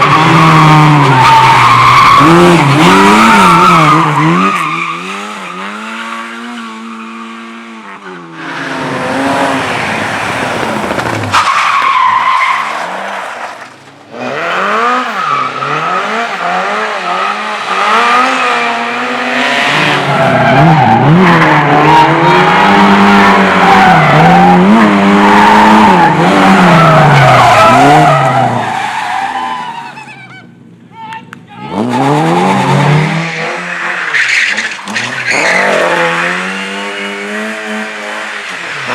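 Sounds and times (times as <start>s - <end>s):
race car engine revving: 0.0s - 12.1s, 14.1s - 28.6s, 31.7s - 38.9s
tyres skidding and squealing: 0.0s - 38.9s.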